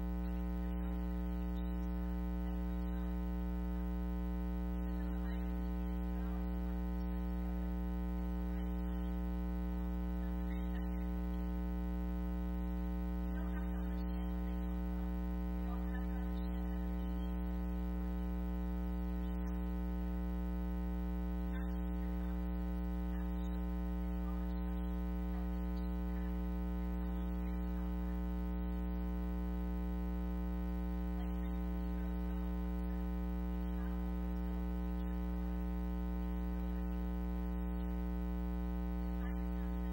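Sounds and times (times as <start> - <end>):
electrical mains hum: 0.0 - 39.9
faint voice: 0.0 - 39.9.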